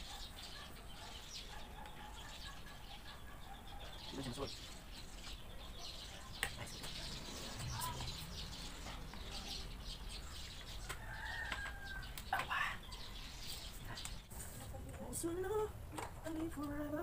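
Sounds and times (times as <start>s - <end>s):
bird calls: 0.0s - 14.8s.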